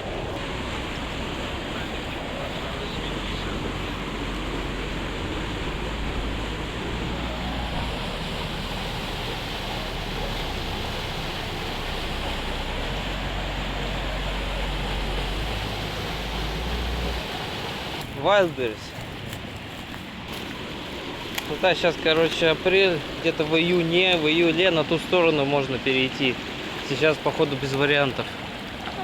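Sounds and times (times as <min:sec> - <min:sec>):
waterfall rushing: 0:00.0 - 0:19.3, 0:20.2 - 0:29.0.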